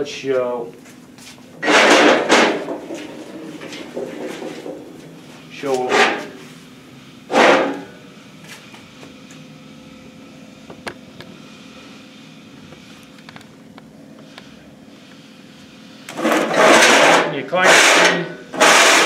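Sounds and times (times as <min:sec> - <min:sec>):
low workshop hum: 0:00.0 - 0:19.0.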